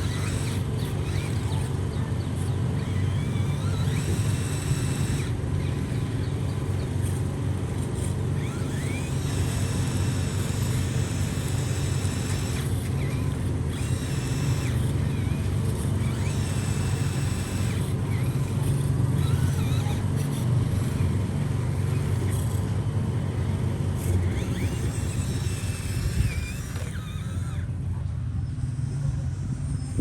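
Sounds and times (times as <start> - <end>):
rc truck motor whine: 0.0 - 30.0.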